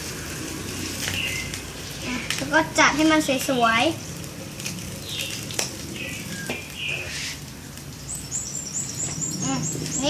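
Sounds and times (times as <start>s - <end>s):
small birds chirping: 0.2s - 10.0s.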